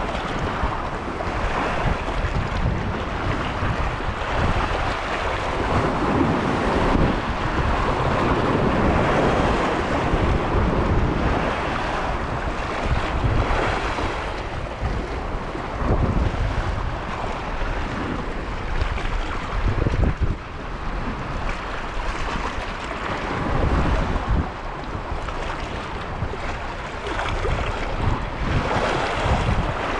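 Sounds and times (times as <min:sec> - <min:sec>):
choppy sea waves: 0:00.0 - 0:29.9
wind buffeting microphone: 0:00.0 - 0:29.9.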